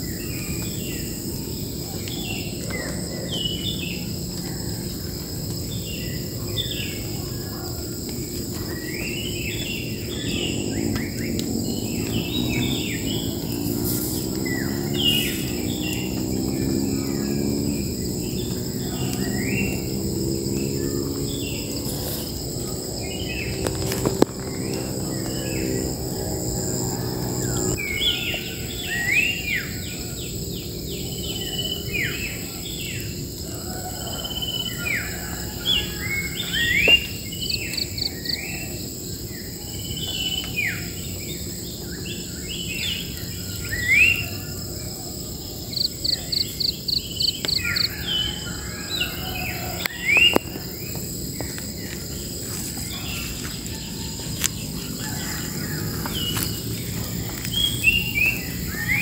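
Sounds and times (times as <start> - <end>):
birds calling and chirping: 0.0 - 59.0
high drone of insects: 0.0 - 59.0.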